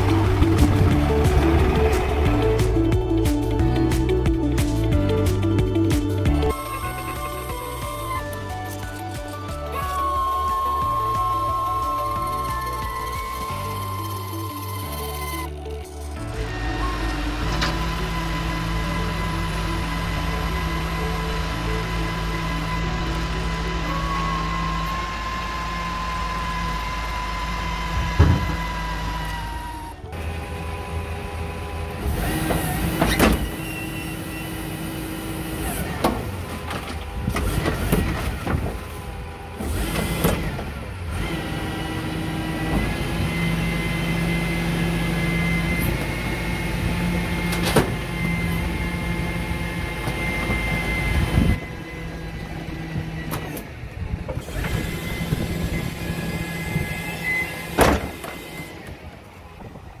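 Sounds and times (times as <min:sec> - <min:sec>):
garbage truck engine: 0:00.0 - 1:00.0
hydraulic compactor whining: 0:00.0 - 1:00.0.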